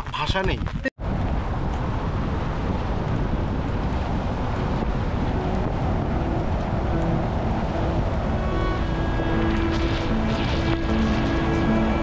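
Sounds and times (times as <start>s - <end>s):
wind rumbling on microphone: 0.0s - 12.0s
car road noise on wet road: 1.0s - 12.0s.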